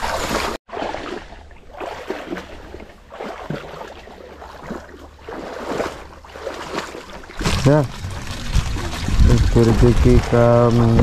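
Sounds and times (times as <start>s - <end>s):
water splashing around boat: 0.0s - 11.0s.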